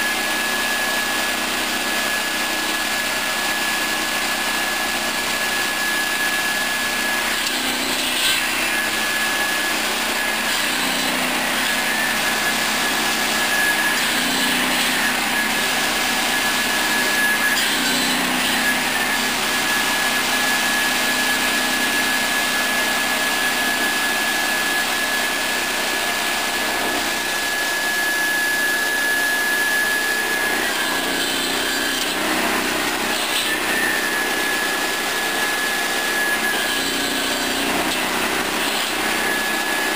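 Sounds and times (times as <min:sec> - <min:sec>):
saw blade cutting firewood: 0:00.0 - 0:39.9.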